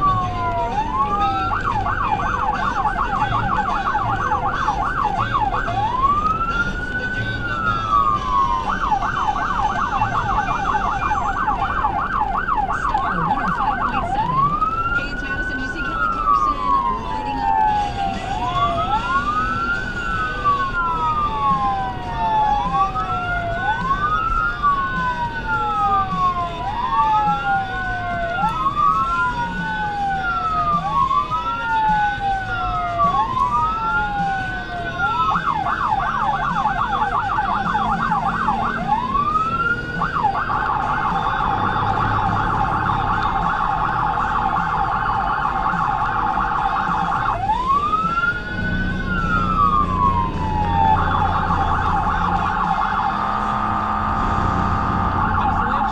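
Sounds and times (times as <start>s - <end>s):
electronic siren wailing: 0.0s - 55.9s
siren fast warble: 0.0s - 55.9s
siren yelp: 0.0s - 55.9s.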